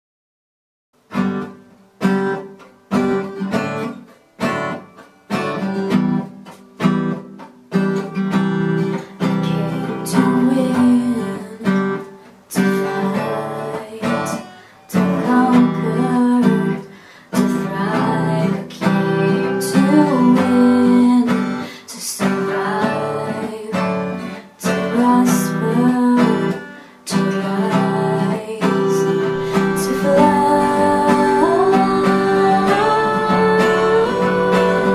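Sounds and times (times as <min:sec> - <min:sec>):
acoustic guitar strumming: 0:01.0 - 0:34.9.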